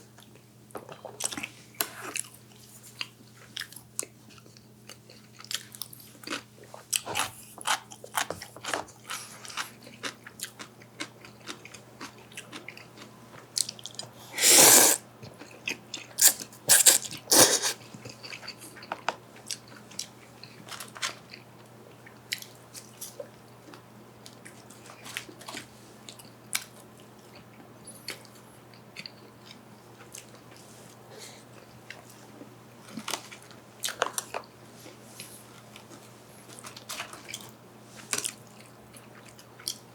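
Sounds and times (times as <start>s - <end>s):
chewing and crunching mouth sounds: 0.2s - 39.9s.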